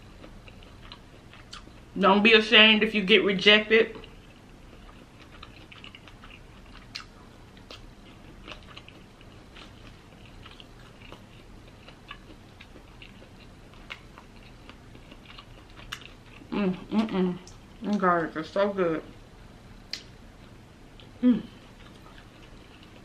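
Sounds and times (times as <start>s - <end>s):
person chewing: 0.0s - 1.9s, 3.9s - 17.7s, 19.9s - 23.0s.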